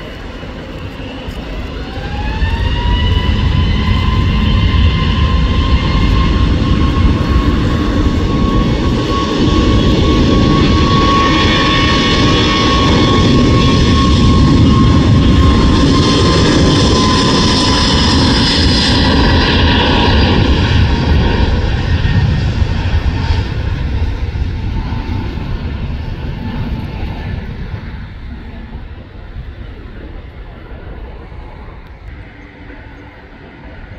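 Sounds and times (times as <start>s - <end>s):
jet engines at takeoff power: 0.0s - 33.9s.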